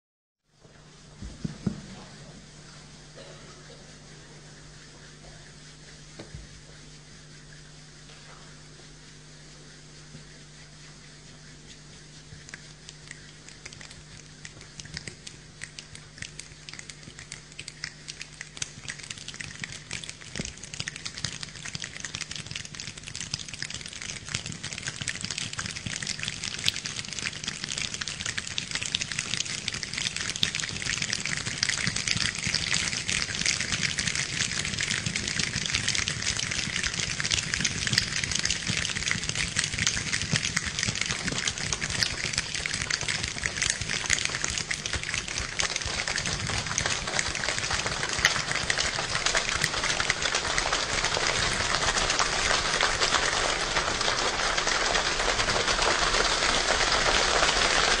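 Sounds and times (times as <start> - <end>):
hands pattering like rain: 1.1 - 58.0.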